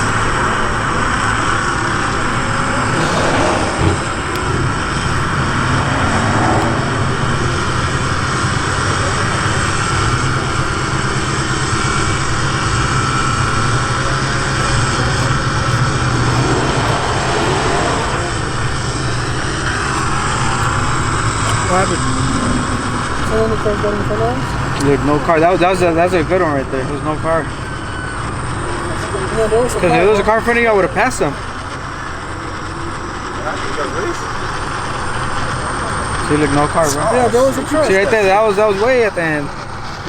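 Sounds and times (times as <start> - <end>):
car engine drone: 0.0 - 40.0
road noise: 0.0 - 40.0.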